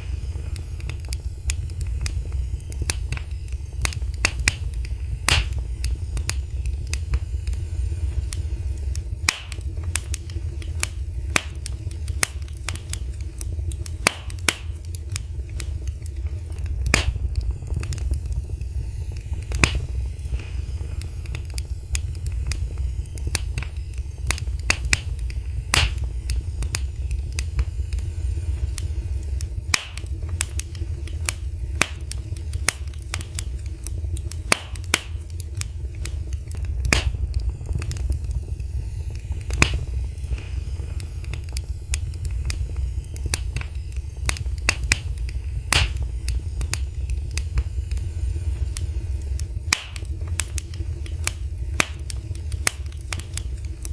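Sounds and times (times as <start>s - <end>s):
fireplace fire crackling: 0.0s - 53.9s.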